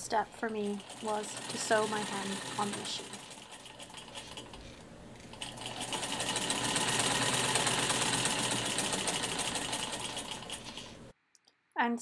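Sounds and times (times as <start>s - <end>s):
sewing machine stitching: 0.0s - 11.1s.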